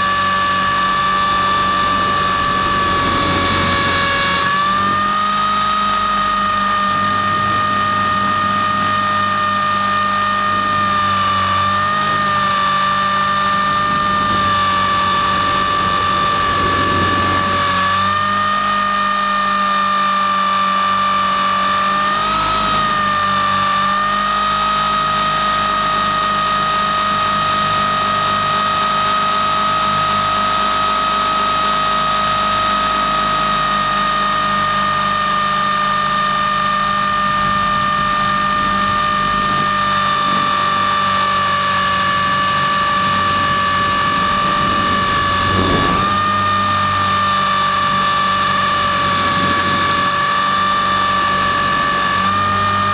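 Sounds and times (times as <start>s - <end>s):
rc helicopter motor whine: 0.0s - 52.9s
rotor hum: 0.0s - 52.9s.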